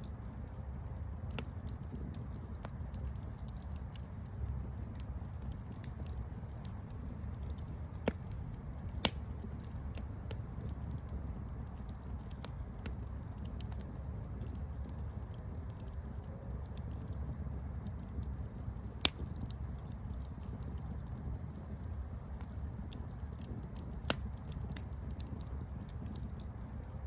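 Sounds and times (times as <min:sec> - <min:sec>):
campfire crackles and pops: 0:00.0 - 0:27.0
low rumble of campfire flames: 0:00.0 - 0:27.0.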